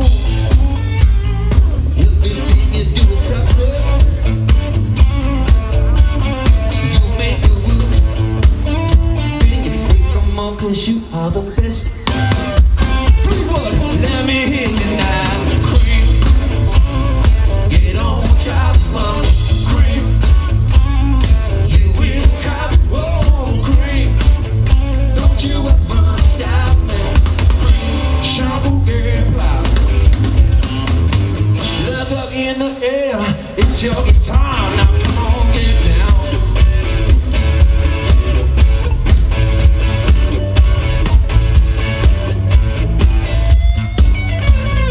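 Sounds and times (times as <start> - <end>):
drum kit beat: 0.0 - 10.6, 11.6 - 32.1, 33.5 - 44.9
person singing: 0.0 - 30.4, 31.6 - 42.5
live rock band playing: 0.0 - 44.9.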